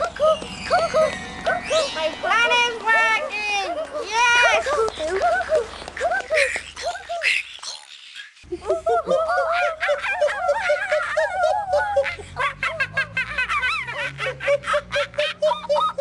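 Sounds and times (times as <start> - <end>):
children laughing and giggling: 0.0 - 16.0.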